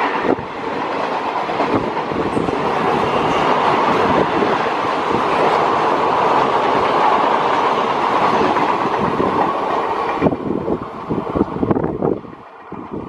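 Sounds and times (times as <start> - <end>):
train knocks: 0.0 - 13.0
train wheels rumbling on rails: 0.0 - 13.0.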